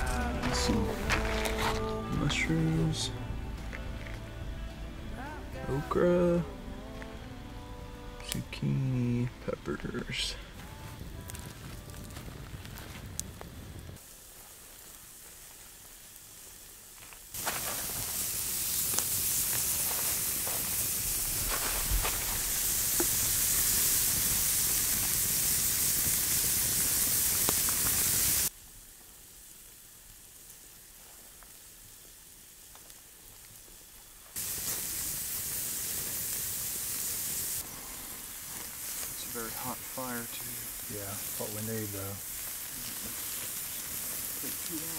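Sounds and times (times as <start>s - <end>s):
campfire pops: 0.0s - 2.6s, 9.8s - 44.9s
steak sizzling on a grill: 0.0s - 44.9s.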